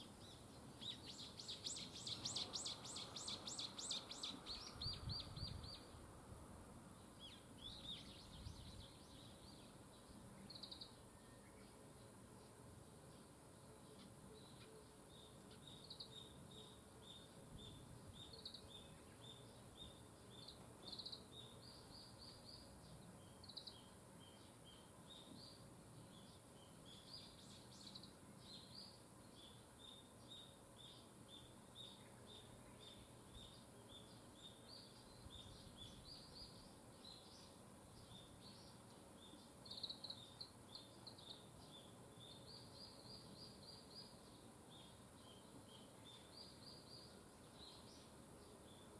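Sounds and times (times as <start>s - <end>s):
small birds chirping: 0.0s - 6.2s, 6.9s - 48.9s.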